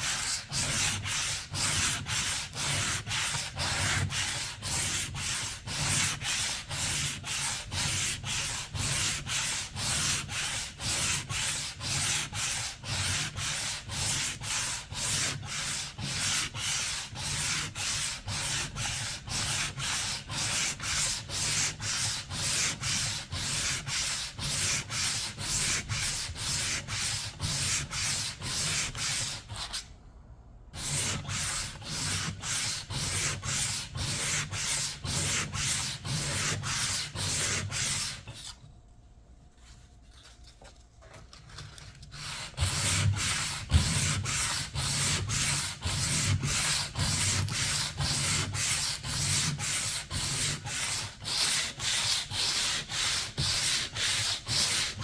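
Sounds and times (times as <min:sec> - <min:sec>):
sandpaper rubbing on paint: 0:00.0 - 0:29.8, 0:30.8 - 0:38.6, 0:42.1 - 0:55.0.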